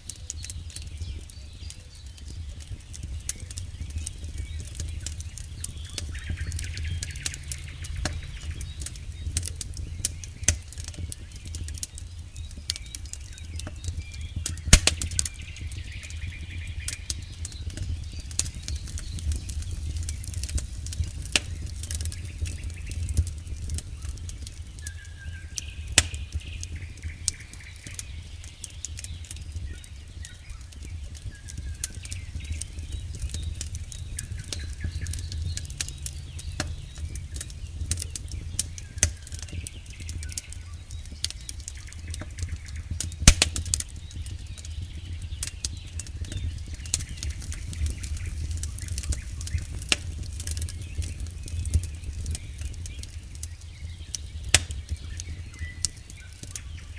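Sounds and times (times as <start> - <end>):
campfire crackling and popping: 0.0 - 56.9
low rumble of flames: 0.0 - 56.9.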